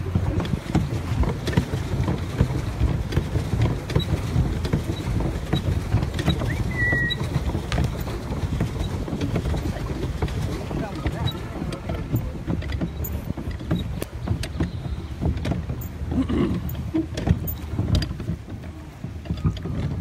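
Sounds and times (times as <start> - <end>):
small boat under way: 0.0 - 20.0.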